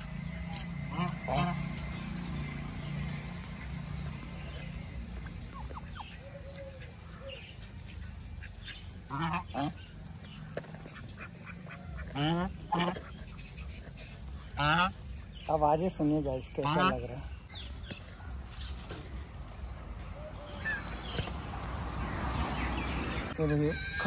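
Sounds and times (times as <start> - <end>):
geese and ducks honking: 0.0 - 24.0.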